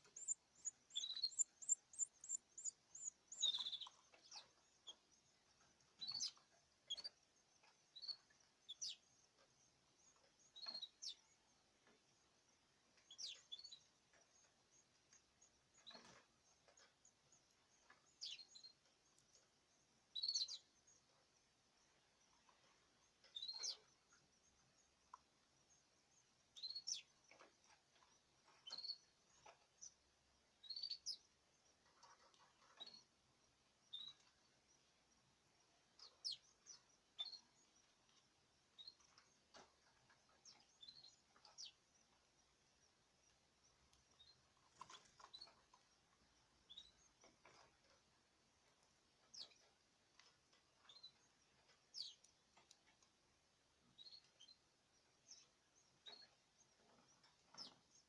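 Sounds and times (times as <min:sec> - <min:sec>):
cage birds chirping: 0:00.0 - 0:21.2, 0:21.8 - 0:30.0, 0:30.6 - 0:53.1, 0:53.8 - 0:58.0.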